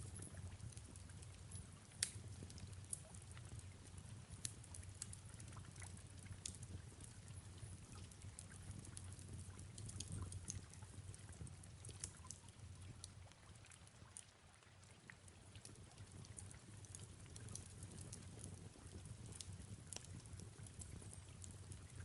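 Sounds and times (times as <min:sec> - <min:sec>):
fire crackling and popping: 0:00.0 - 0:14.2, 0:15.0 - 0:22.0
gentle rain: 0:00.0 - 0:22.0
low fire rumble: 0:00.0 - 0:22.0.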